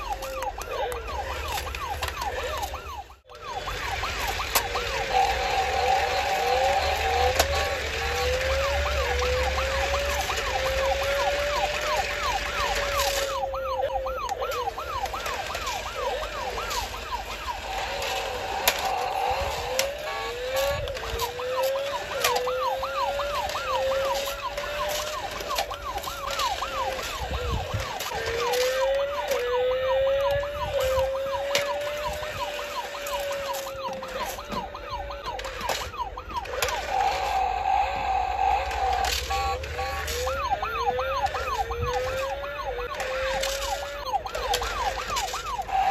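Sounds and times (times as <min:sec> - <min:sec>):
electronic toy siren wailing: 0:00.0 - 0:45.9
toy bikes clicking on tile floor: 0:00.0 - 0:45.9.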